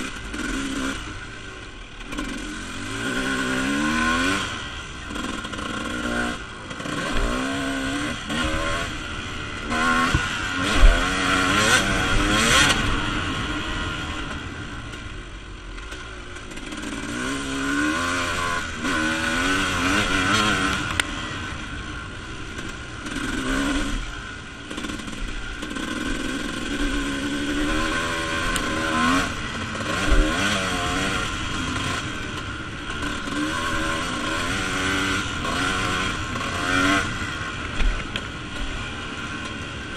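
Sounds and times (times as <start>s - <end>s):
dirt bike engine revving: 0.0s - 14.9s, 15.8s - 39.9s.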